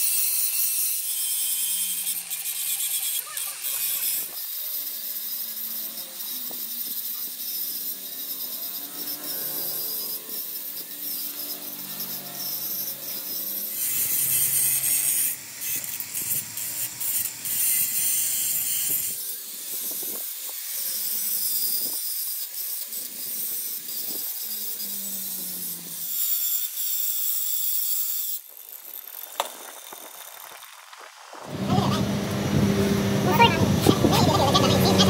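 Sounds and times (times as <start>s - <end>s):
angle grinder grinding metal: 0.0s - 35.0s.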